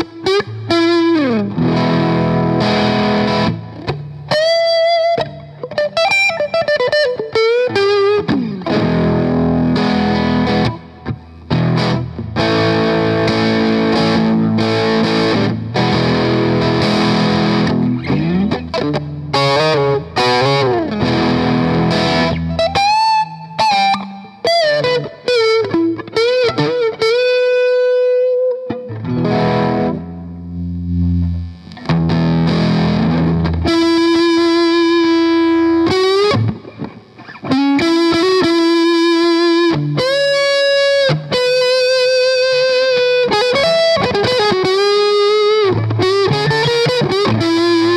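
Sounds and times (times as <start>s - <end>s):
distorted electric guitar: 0.0s - 47.9s.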